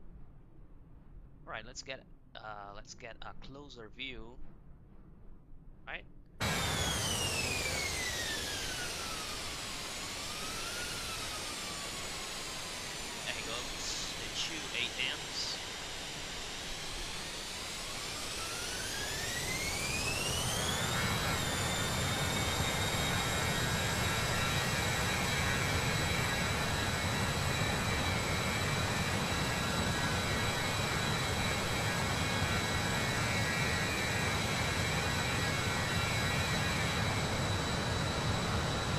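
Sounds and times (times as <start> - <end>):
jet engines whining: 6.4 - 38.9.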